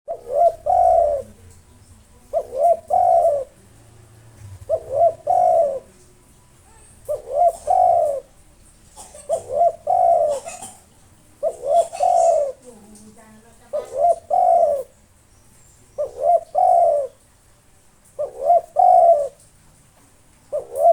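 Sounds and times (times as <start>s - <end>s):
dove cooing: 0.1s - 15.0s, 15.8s - 17.4s, 18.0s - 20.9s.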